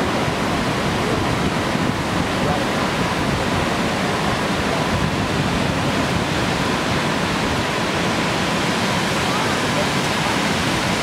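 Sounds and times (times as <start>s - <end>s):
waterfall rushing onto rock: 0.0s - 11.0s.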